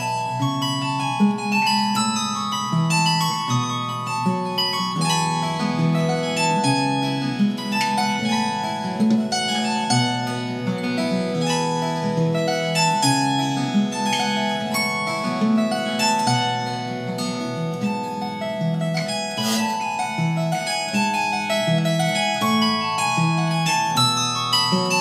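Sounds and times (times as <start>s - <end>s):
harp guitar plucked melody: 0.0s - 25.0s.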